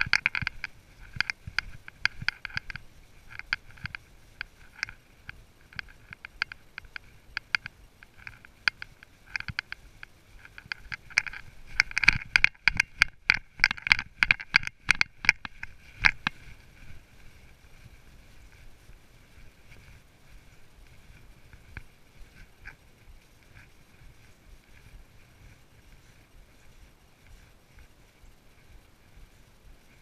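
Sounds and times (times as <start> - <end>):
hooves crunching dry leaves: 0.0 - 30.0.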